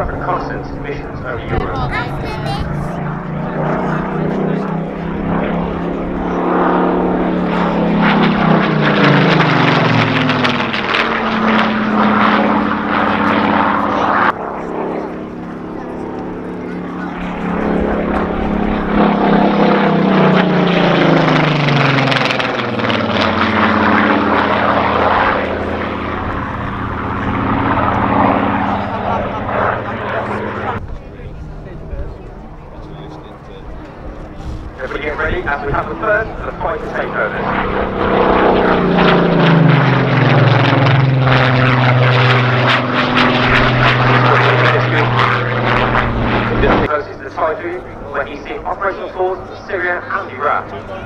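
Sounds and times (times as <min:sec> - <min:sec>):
propeller plane engine passing low: 0:00.0 - 0:51.0.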